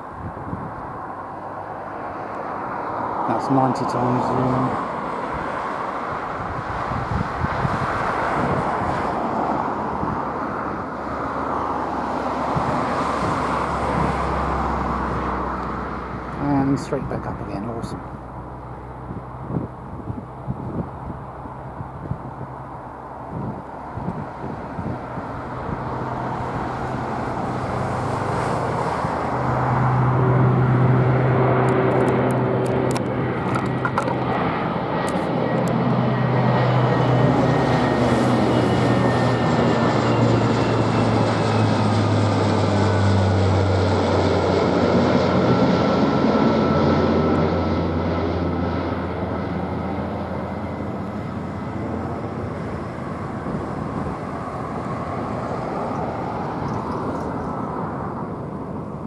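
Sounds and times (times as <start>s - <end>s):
propeller aircraft flying overhead: 0.0s - 59.0s.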